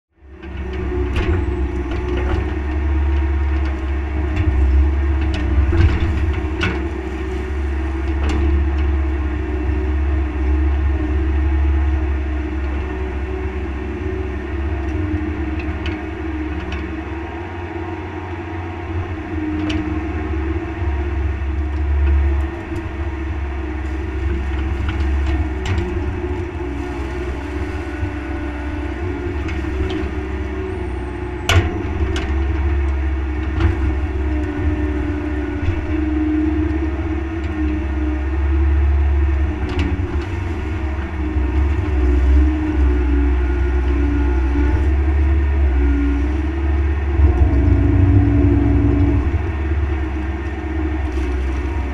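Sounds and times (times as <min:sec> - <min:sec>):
excavator diesel engine: 0:00.1 - 0:51.9.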